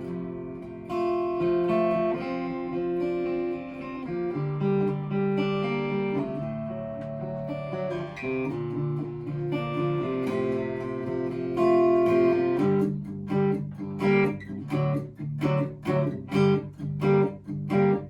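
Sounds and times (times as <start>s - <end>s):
acoustic guitar chords strummed: 0.0s - 18.0s.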